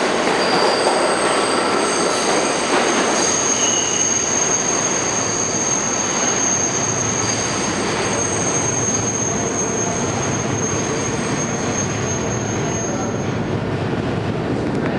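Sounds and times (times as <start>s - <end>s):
subway train rolling: 0.0s - 14.9s
high thin wheel squeal: 0.4s - 13.4s.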